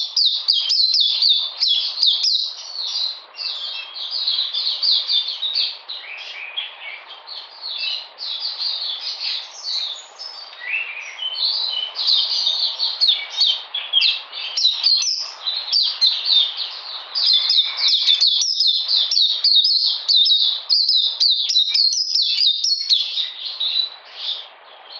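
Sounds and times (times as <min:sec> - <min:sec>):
bird twittering song: 0:00.0 - 0:24.9.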